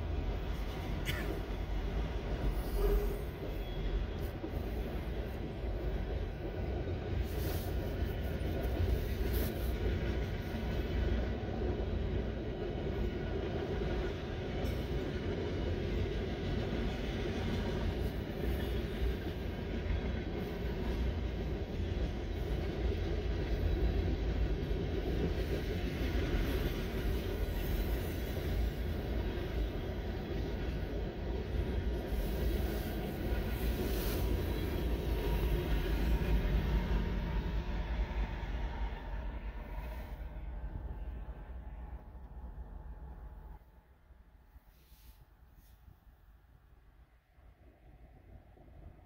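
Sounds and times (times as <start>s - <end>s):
train wheels rumbling on rails: 0.0s - 43.6s.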